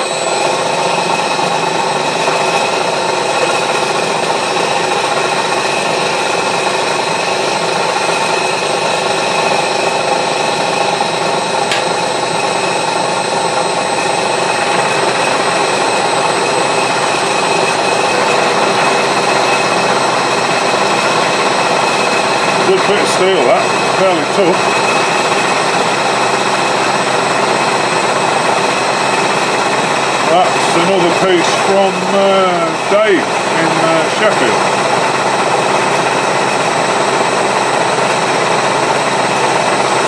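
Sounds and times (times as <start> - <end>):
milling machine motor running: 0.0 - 40.0.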